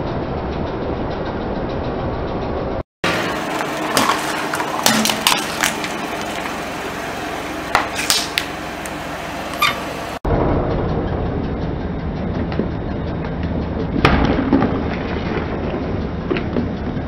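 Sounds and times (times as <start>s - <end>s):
car engine idling: 0.4s - 14.0s.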